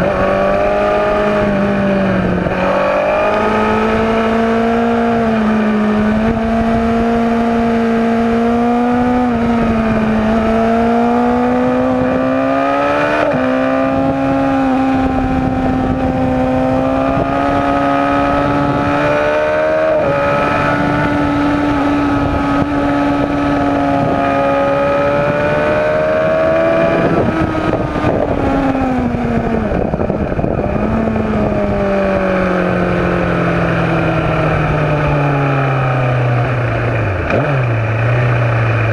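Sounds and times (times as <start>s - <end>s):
motorcycle engine at high revs: 0.0s - 38.9s
wind rushing over microphone: 0.0s - 38.9s.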